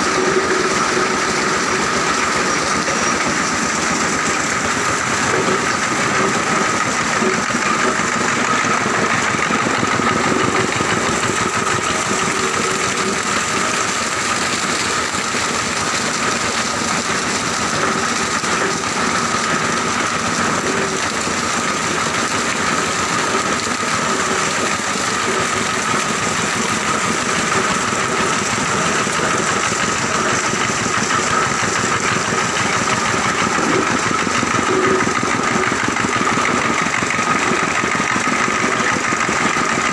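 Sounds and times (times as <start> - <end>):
constant machine whine: 0.0 - 39.9
grinder and washer machine running: 0.0 - 39.9.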